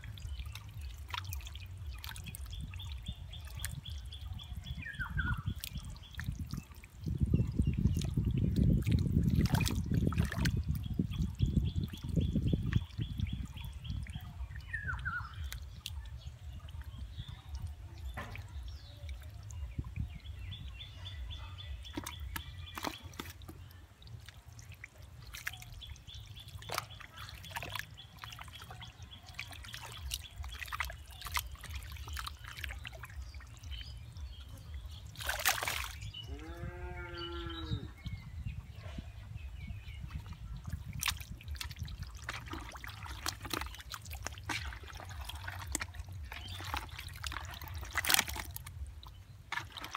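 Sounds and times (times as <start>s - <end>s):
hands sloshing in muddy water: 0.0s - 36.2s, 39.7s - 49.9s
water splashes and drips: 0.0s - 37.4s, 39.6s - 49.9s.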